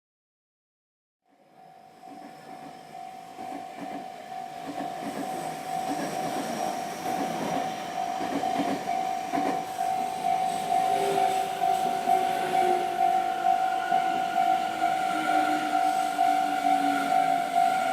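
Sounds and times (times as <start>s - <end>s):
electric train running noise: 1.4s - 17.9s
level crossing warning bell: 1.5s - 17.9s.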